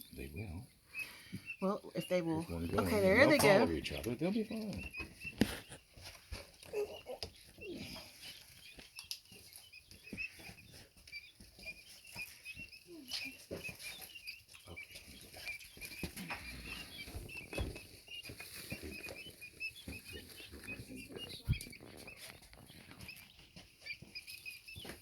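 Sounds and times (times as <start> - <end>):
chicks peeping: 0.0 - 25.0
chicks scratching and pecking: 0.0 - 25.0.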